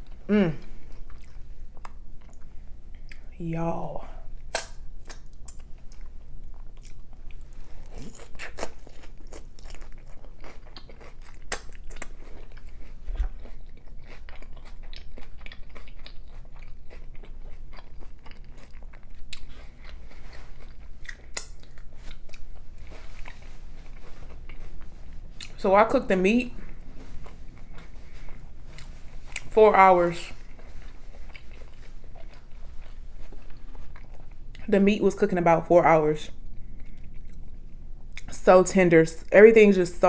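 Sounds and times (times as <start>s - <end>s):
person chewing food: 0.0s - 3.3s, 4.4s - 25.6s, 26.5s - 29.6s, 30.3s - 34.7s, 36.3s - 38.3s.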